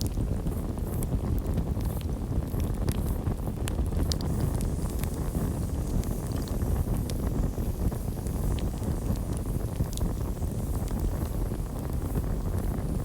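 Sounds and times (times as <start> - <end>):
campfire flames rumbling: 0.0 - 13.0
fire crackling and popping: 0.0 - 13.0.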